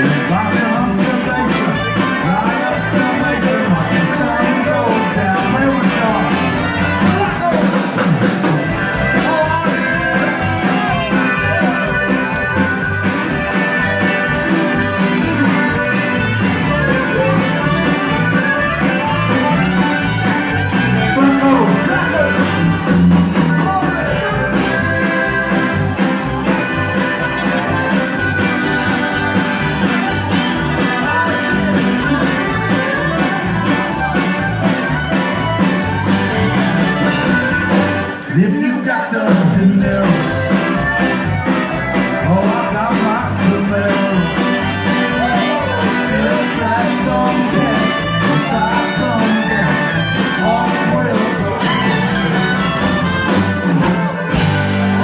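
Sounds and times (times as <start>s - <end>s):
live band playing: 0.0s - 55.0s
person singing: 0.0s - 55.0s.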